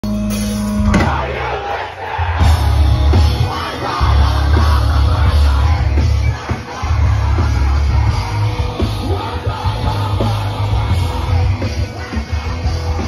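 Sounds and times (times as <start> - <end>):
crowd noise: 0.0 - 13.0
live rock band playing: 0.0 - 13.0.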